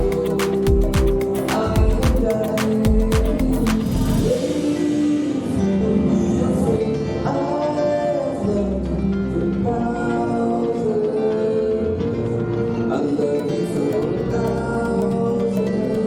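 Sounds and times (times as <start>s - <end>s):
song with singing: 0.0s - 16.0s.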